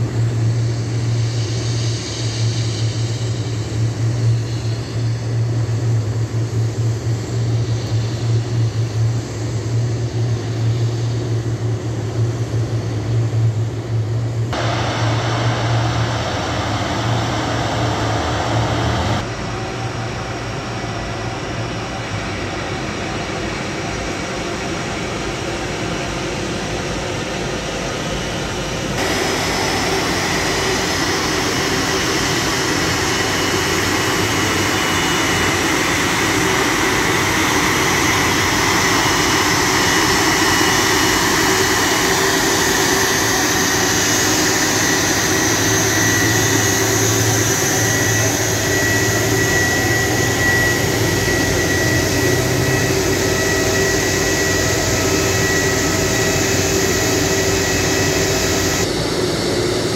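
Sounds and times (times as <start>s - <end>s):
jet engine idling roar: 0.0s - 59.9s.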